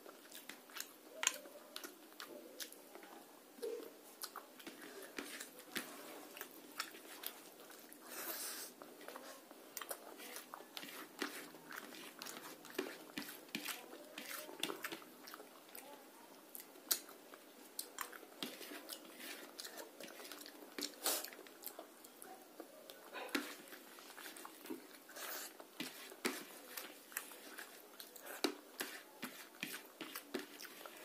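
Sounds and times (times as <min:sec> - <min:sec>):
close chewing: 0:00.0 - 0:31.0.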